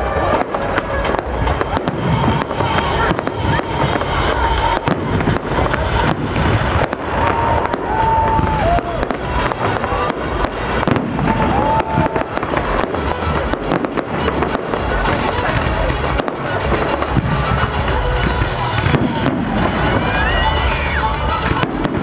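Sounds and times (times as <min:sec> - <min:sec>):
fireworks bangs and crackling: 0:00.0 - 0:22.0
fireworks whistling: 0:00.0 - 0:22.0.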